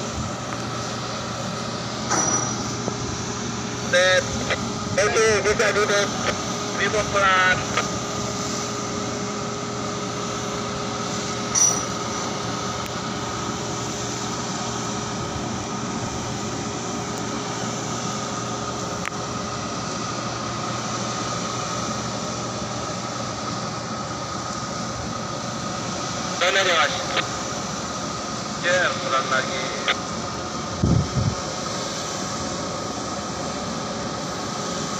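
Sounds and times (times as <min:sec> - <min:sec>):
crane machinery humming: 0:00.0 - 0:34.9
high even whine: 0:00.0 - 0:34.9.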